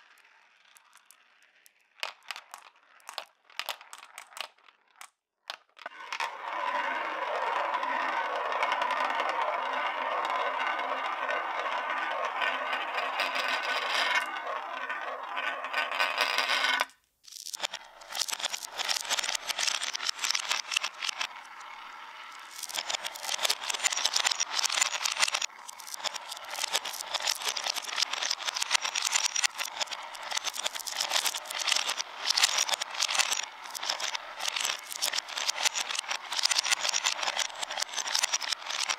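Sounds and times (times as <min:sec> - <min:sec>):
marble rolling in plastic funnel: 0:00.0 - 0:38.9
marbles clicking on wooden track: 0:00.0 - 0:38.9.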